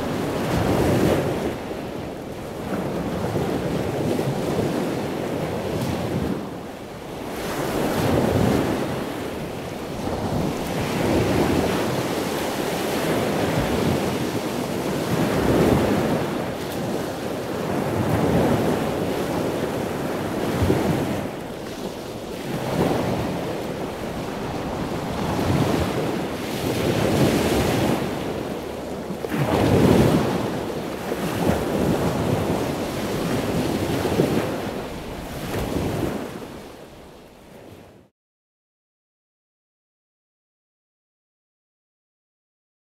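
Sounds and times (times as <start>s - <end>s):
ocean waves breaking: 0.0s - 38.0s
wind noise on microphone: 0.0s - 38.1s.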